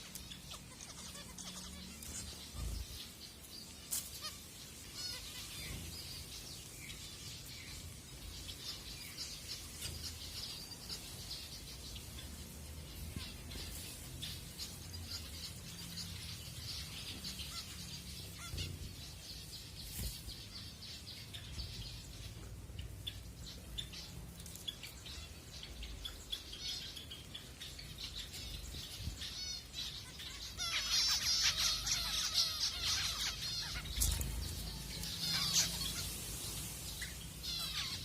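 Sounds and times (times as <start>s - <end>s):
finches chirping: 0.0s - 38.0s.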